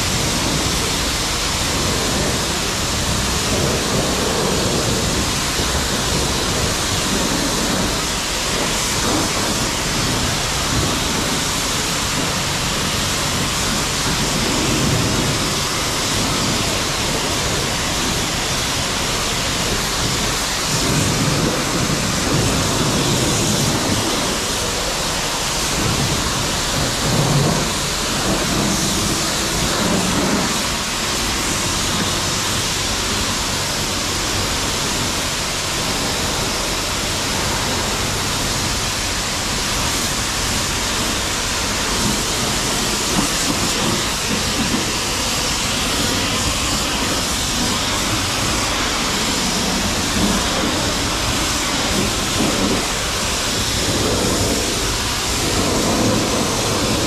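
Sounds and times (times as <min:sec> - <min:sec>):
pressure washer spraying water: 0:00.0 - 0:57.0.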